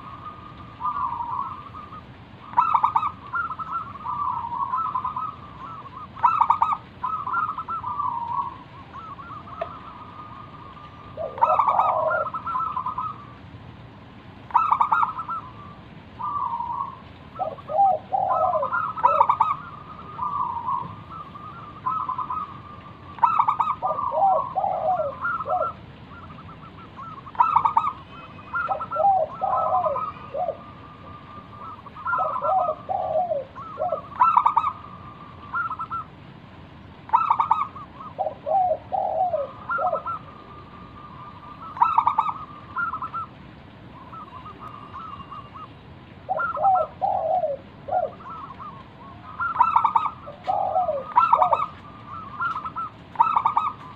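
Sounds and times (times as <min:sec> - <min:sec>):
dove cooing: 0:00.0 - 0:13.4, 0:14.4 - 0:36.3, 0:37.0 - 0:53.9.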